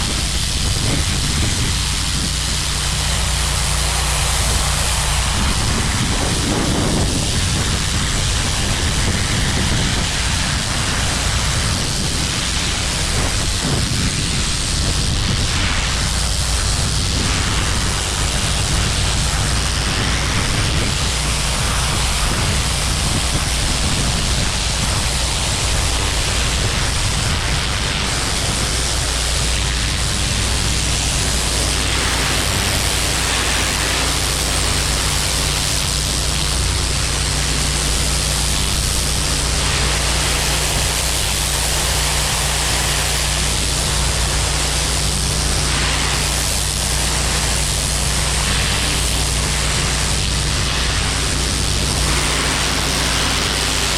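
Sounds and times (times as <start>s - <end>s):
high-pressure water spraying: 0.0s - 53.9s
pressure washer engine hum: 0.0s - 53.9s.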